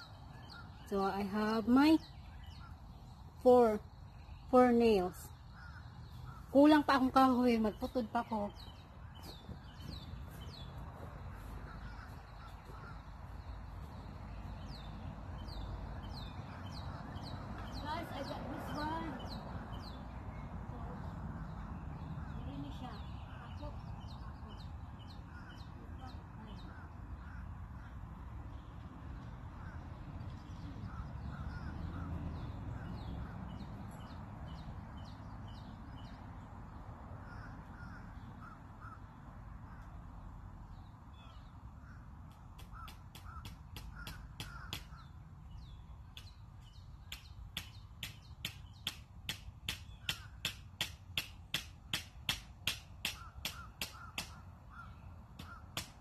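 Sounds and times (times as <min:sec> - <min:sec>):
birds calling: 0:00.0 - 0:56.0.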